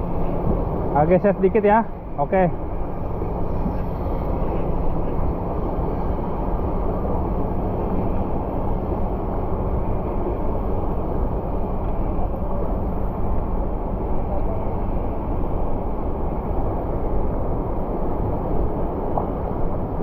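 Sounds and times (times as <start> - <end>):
outboard boat engine rumble: 0.0 - 20.0.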